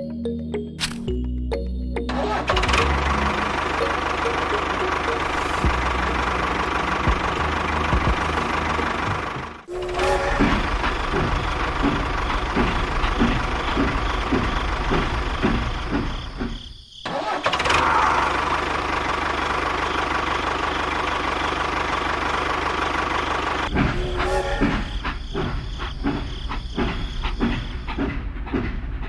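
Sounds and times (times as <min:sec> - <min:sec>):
engine chugging: 0:02.1 - 0:29.0.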